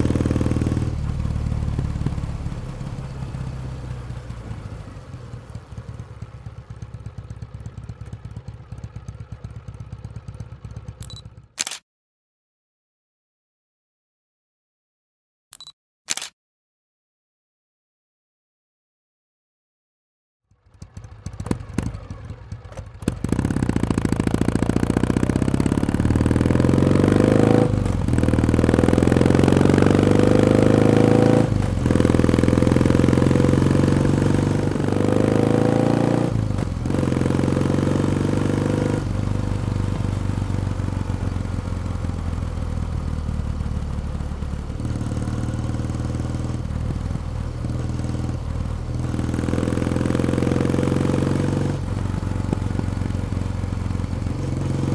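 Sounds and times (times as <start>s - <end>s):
motorcycle engine accelerating: 0.0s - 11.8s, 20.5s - 54.9s.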